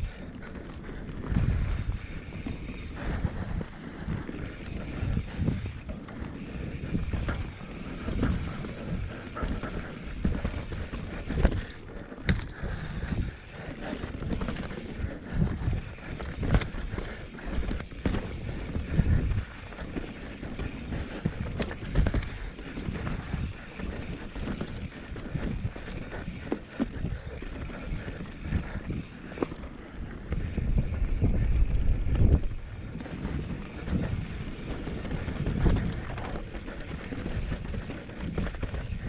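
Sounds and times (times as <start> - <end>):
bike rattling and knocking: 0.0 - 39.0
wind buffeting microphone: 0.0 - 39.0.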